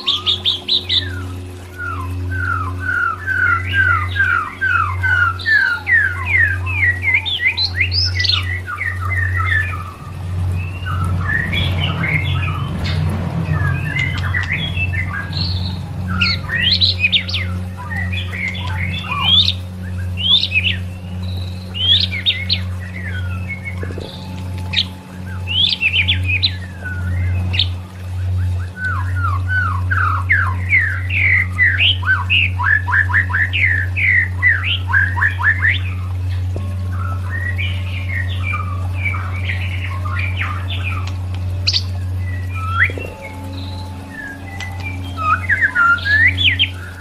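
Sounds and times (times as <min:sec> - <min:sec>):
songbird whistling and chirping: 0:00.0 - 0:47.0
steady low hum: 0:00.0 - 0:47.0.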